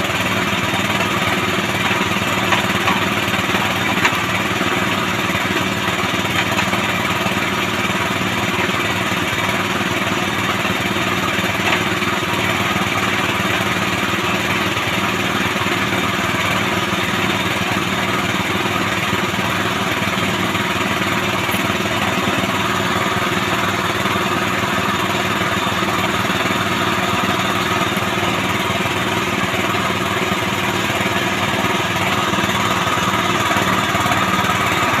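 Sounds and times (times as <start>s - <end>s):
small petrol engine running: 0.0s - 35.0s.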